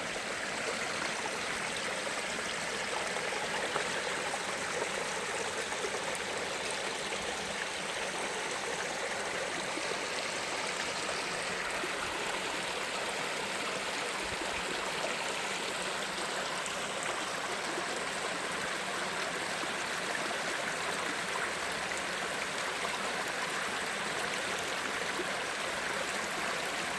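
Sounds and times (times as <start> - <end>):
stream flowing over rocks: 0.0 - 26.9.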